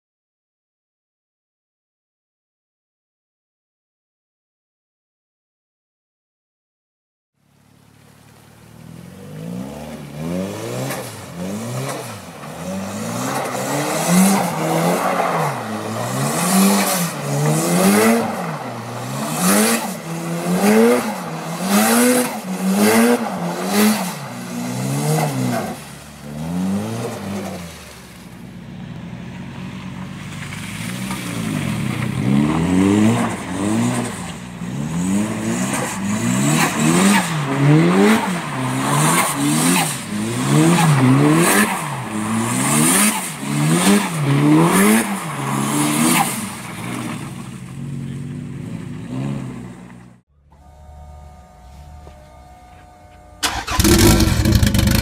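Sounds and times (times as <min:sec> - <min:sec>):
car engine revving: 0:07.6 - 0:55.0.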